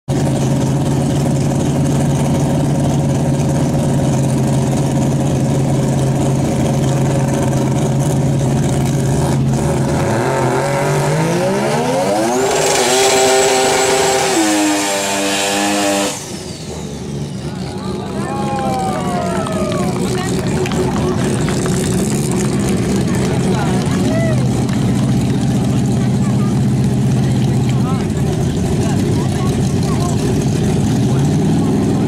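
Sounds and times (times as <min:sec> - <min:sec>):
car engine idling and revving: 0:00.1 - 0:32.0.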